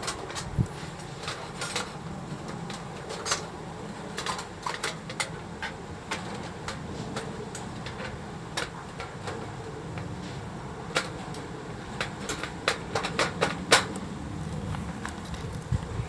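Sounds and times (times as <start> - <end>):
firewood crackling and popping: 0.0 - 16.0
low steady fire rumble: 0.0 - 16.0.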